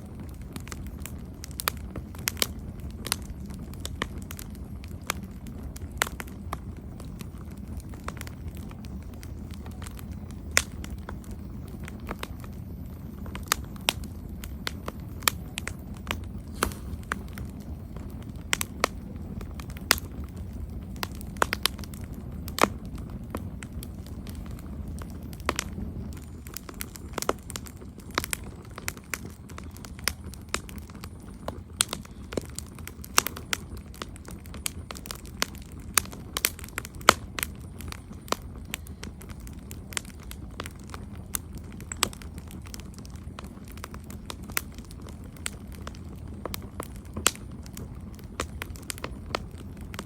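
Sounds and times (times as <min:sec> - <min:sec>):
campfire crackling and popping: 0:00.0 - 0:50.0
low roar of flames: 0:00.0 - 0:50.0.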